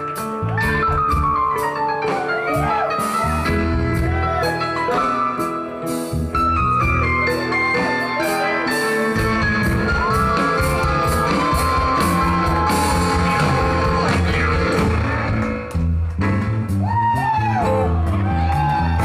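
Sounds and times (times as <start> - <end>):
drum kit: 0.0 - 19.0
electric guitars: 0.0 - 19.0.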